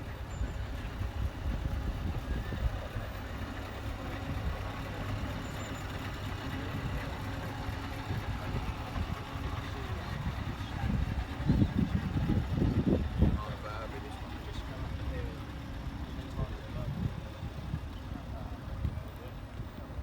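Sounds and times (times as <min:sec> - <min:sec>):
truck diesel engine idling: 0:00.0 - 0:20.0.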